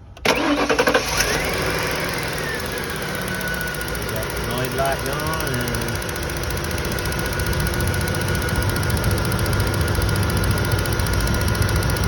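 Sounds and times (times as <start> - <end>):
engine idling with misfire: 0.2 - 12.0.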